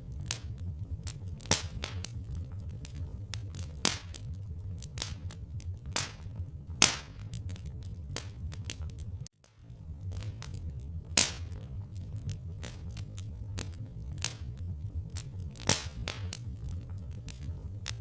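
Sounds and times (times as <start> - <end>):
log fire crackling: 0.0 - 18.0
low steady rumble: 0.0 - 18.0.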